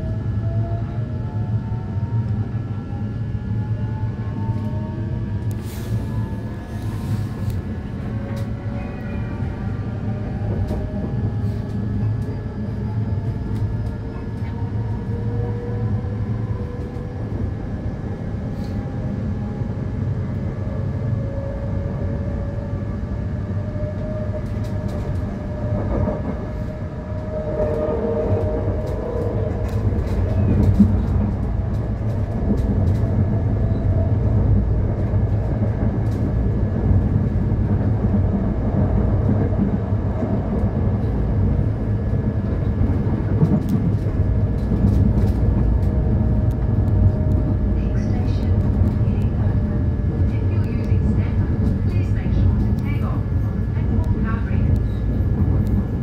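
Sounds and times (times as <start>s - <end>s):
electric train rumble and motor whine: 0.0s - 56.0s.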